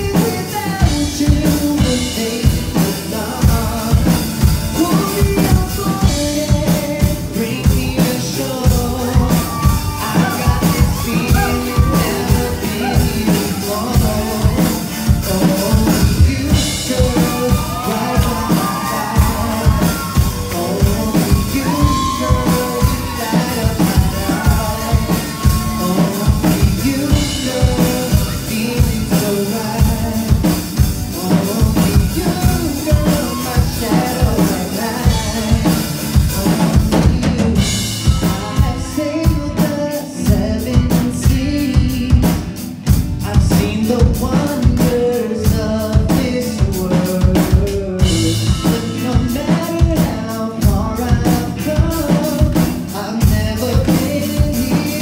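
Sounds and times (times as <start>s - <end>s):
acoustic and electric guitars: 0.0s - 55.0s
drum kit: 0.0s - 55.0s
man singing: 0.0s - 55.0s.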